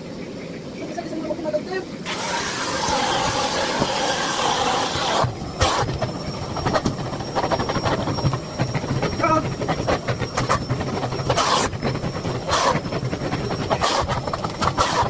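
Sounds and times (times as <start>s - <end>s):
vacuum cleaner running: 2.0s - 15.0s.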